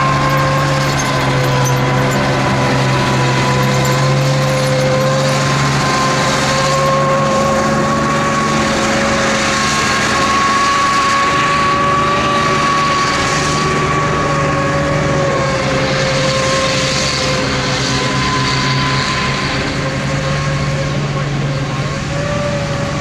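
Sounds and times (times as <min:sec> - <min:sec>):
tank engine running: 0:00.0 - 0:23.0
tracks churning through dirt: 0:00.0 - 0:23.0.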